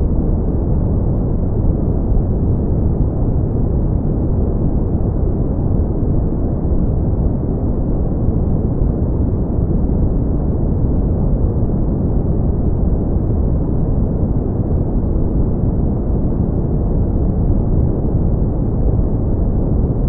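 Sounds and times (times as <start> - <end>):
deep rumbling brown noise: 0.0 - 20.0.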